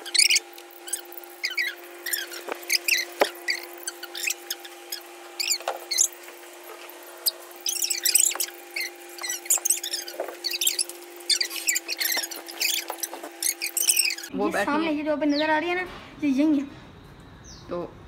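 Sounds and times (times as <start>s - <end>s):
small birds squeaky chirping: 0.0s - 15.8s, 17.3s - 17.8s
steady low hum: 0.0s - 18.0s.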